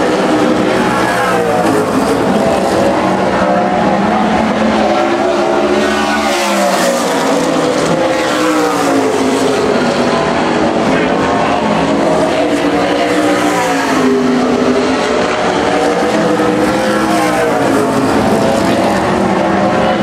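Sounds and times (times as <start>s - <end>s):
race car engine at speed: 0.0s - 20.0s.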